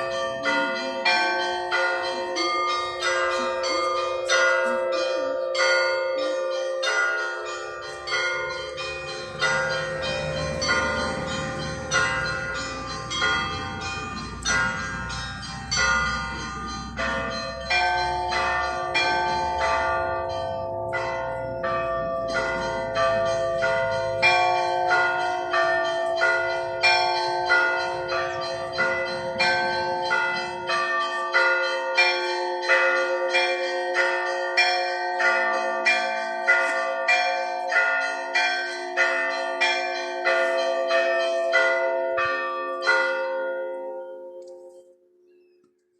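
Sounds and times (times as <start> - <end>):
large bells ringing: 0.0 - 44.9
deep bell: 0.0 - 45.4.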